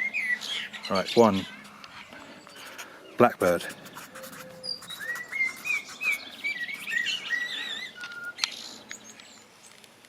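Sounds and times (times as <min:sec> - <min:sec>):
blackbird singing fluty notes: 0:00.0 - 0:03.2, 0:03.8 - 0:09.5
small birds twittering: 0:00.0 - 0:09.8.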